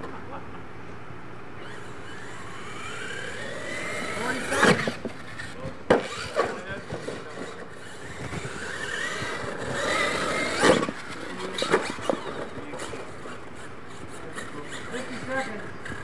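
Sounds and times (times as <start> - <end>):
toy truck motor whining: 1.6 - 16.0.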